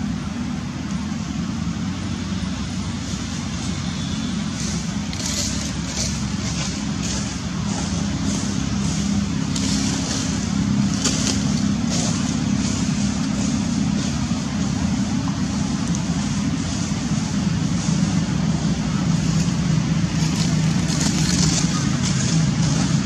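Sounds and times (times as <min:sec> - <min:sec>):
low engine-like hum: 0:00.0 - 0:23.0.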